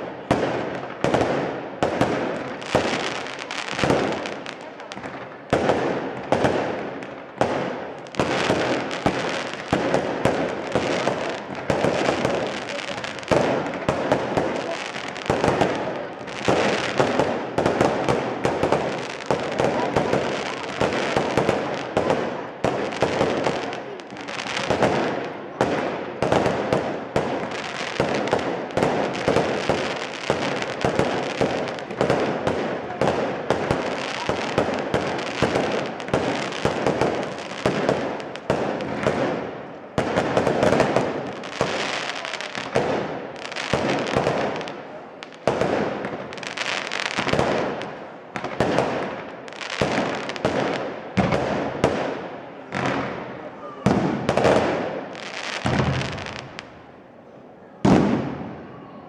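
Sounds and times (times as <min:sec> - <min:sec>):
fireworks bursts and bangs: 0:00.0 - 0:57.0, 0:57.8 - 0:58.8.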